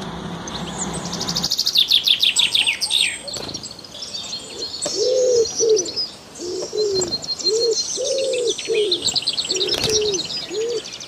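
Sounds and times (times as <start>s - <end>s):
birds calling low arched notes: 0.0s - 11.0s
high bird chirps and trills: 0.4s - 11.0s.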